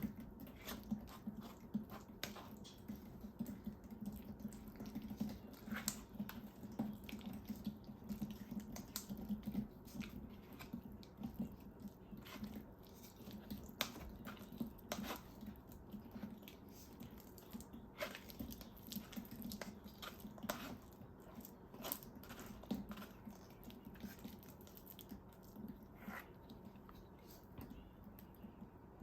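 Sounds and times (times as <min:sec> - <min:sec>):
small squishing sounds: 0:00.0 - 0:29.0.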